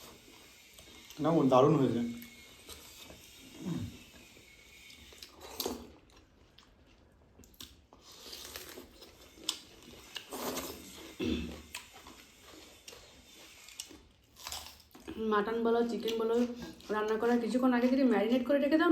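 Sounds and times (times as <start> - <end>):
chewing with crunches and smacks: 0.0 - 18.9.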